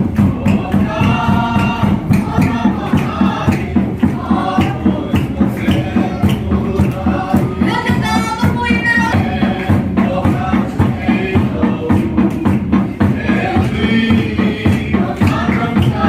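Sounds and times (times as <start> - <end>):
congregation singing a hymn: 0.0 - 16.0
steady drum beat: 0.0 - 16.0.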